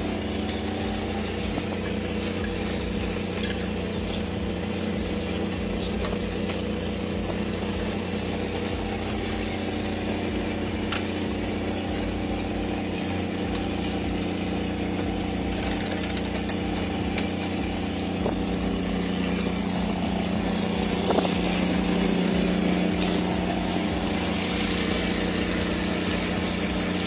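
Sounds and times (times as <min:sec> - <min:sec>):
engine drone: 0:00.0 - 0:27.0
jigging machine reels hauling: 0:00.0 - 0:27.0.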